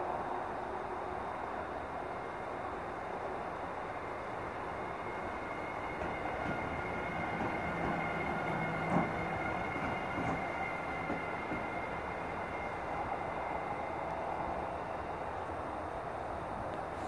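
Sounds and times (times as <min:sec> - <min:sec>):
electric locomotive passing: 0:00.0 - 0:17.0.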